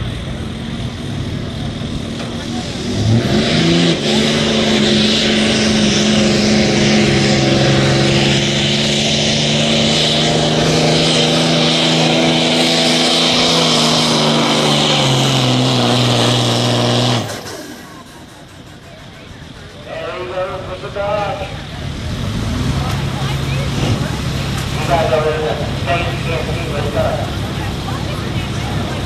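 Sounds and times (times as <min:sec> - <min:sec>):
diesel engine at full throttle: 0:00.0 - 0:29.0.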